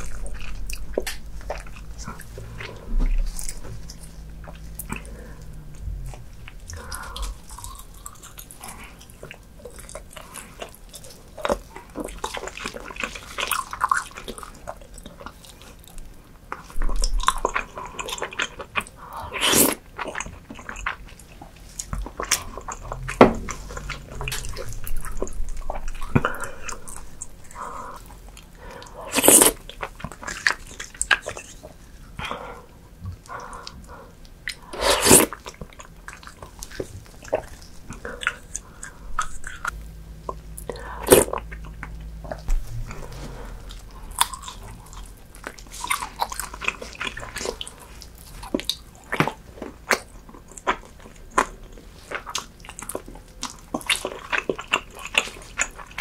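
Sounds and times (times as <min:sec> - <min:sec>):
wet chewing: 0:00.0 - 0:31.9, 0:33.1 - 0:56.0.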